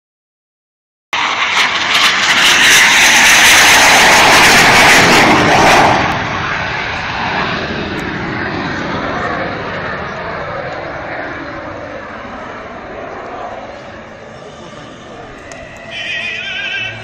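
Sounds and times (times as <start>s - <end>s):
jet aircraft engine roar: 1.2s - 17.0s.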